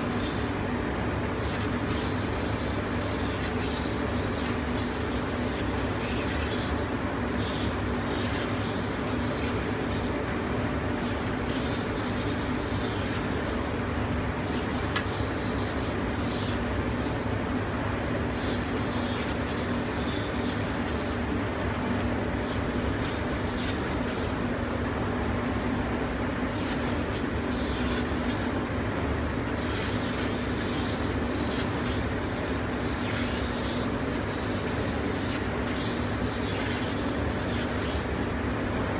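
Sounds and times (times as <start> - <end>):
laser cutting machine drone: 0.0 - 21.5, 22.2 - 24.6, 26.4 - 38.4.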